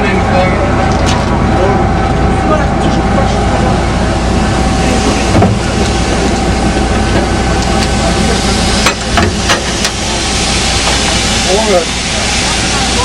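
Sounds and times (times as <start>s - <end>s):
locomotive rumble and hiss: 0.0s - 13.0s.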